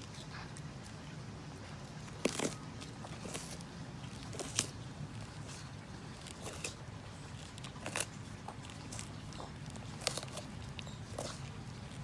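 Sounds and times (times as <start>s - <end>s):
tortoise crunching bell pepper: 0.0s - 12.0s.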